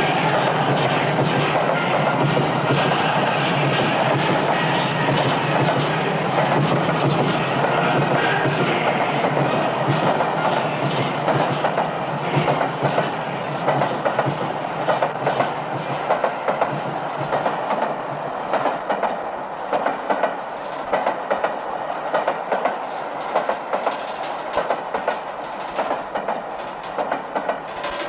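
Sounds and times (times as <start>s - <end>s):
train clattering along rails: 0.0s - 28.0s.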